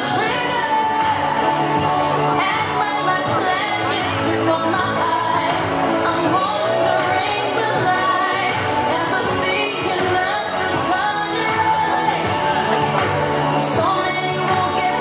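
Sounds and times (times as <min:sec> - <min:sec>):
pop music with singing: 0:00.0 - 0:15.0.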